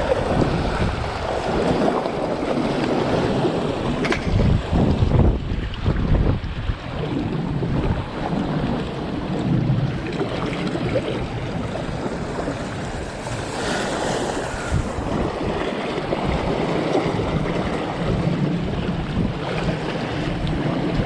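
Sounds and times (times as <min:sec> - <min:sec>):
waves washing on shore: 0:00.0 - 0:21.0
wind buffeting microphone: 0:00.0 - 0:21.0.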